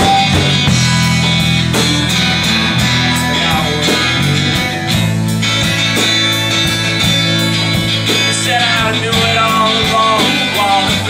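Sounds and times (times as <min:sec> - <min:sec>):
acoustic guitar strumming: 0:00.0 - 0:11.0
bass guitar: 0:00.0 - 0:11.0
drums: 0:00.0 - 0:11.0
electric guitar: 0:00.0 - 0:11.0.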